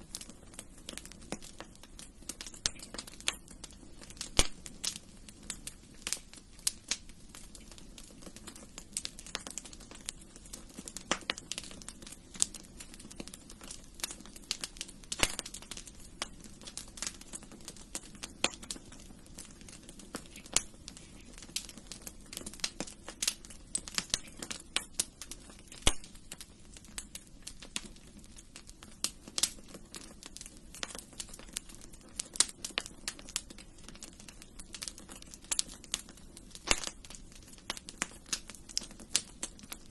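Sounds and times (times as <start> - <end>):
fire popping and snapping: 0.0 - 39.9
flames rushing: 0.0 - 39.9
wood fire crackling: 0.0 - 39.9.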